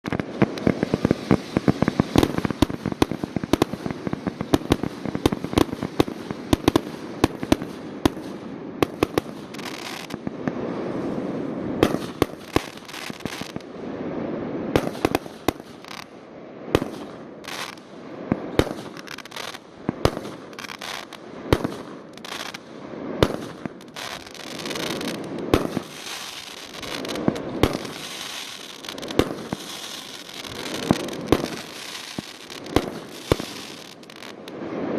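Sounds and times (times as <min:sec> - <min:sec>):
fireworks bangs and crackling: 0:00.0 - 0:34.9
fireworks booms and rumbles: 0:00.0 - 0:34.9.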